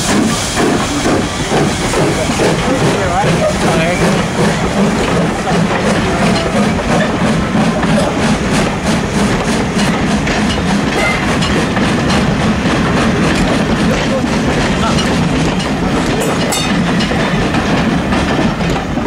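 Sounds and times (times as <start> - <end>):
steam train running: 0.0 - 19.0.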